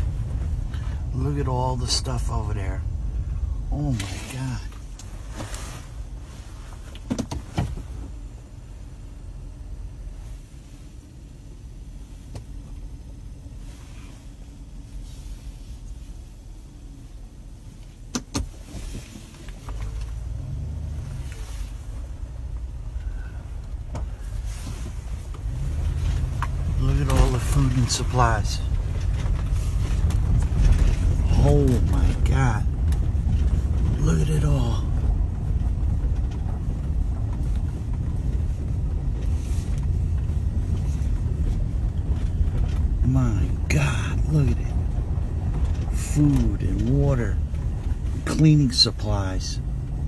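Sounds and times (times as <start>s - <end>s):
road and engine rumble in car: 0.0s - 50.0s.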